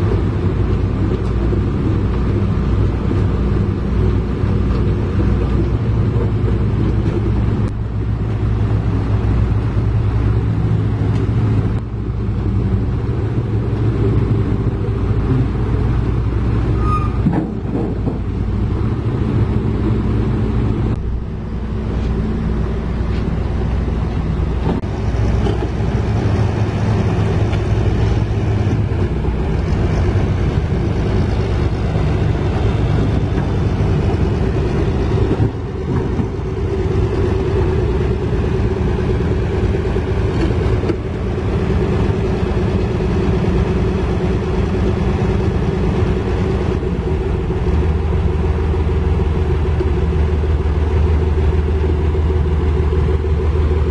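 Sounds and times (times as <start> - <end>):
heavy diesel engine under load: 0.0 - 53.9.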